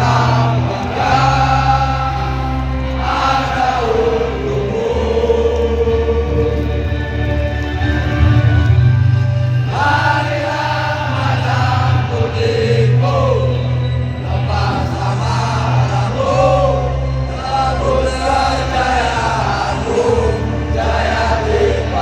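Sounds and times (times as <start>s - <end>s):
group singing in chorus: 0.0s - 7.4s, 9.4s - 22.0s.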